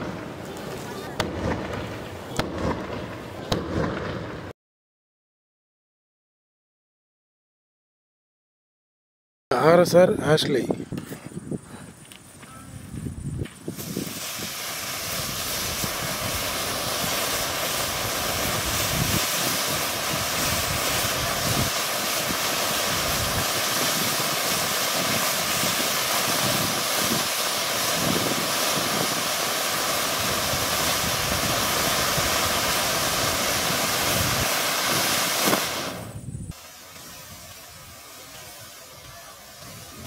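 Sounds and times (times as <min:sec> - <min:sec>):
firework fountain hissing: 0:00.0 - 0:04.5, 0:09.6 - 0:40.0.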